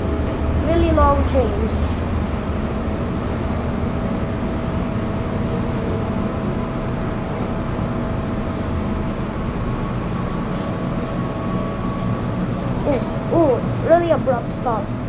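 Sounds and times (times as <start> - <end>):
metro train rumbling in tunnel: 0.0 - 15.0.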